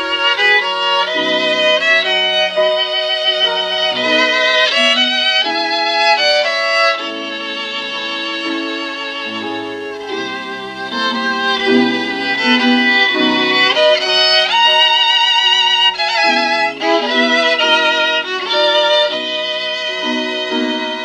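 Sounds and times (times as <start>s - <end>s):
violin melody with accompaniment: 0.0s - 21.0s.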